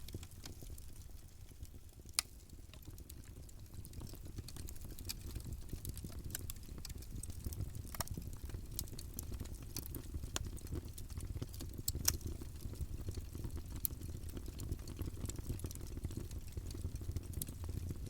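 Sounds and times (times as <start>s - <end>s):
burning wood crackling and popping: 0.0s - 18.0s
low rumble of flames: 0.0s - 18.0s.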